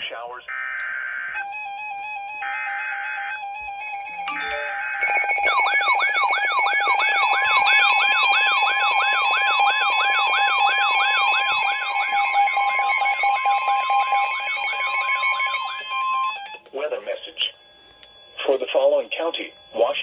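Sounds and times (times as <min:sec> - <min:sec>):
steady alarm tones: 0:00.0 - 0:20.0
electronic siren sweeping: 0:00.5 - 0:16.6.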